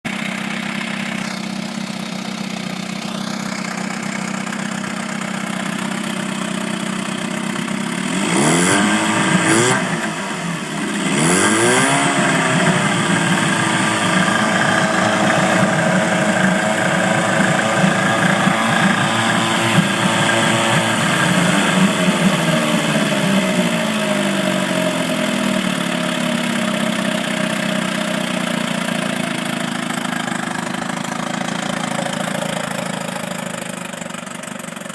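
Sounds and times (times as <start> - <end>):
small engine idling and revving: 0.0 - 34.9.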